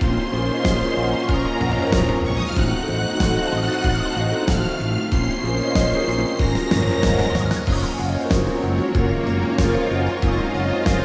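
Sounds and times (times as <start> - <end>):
instrumental backing track: 0.0 - 11.0.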